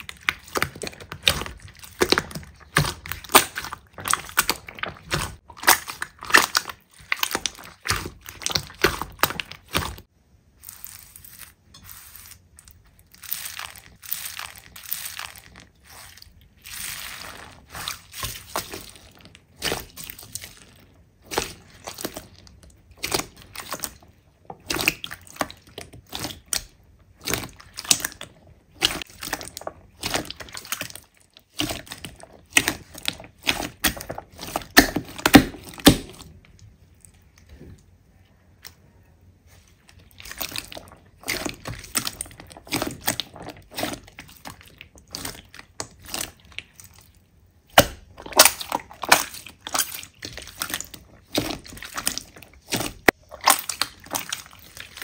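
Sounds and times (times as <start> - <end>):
hands squishing slime: 0.0 - 55.0.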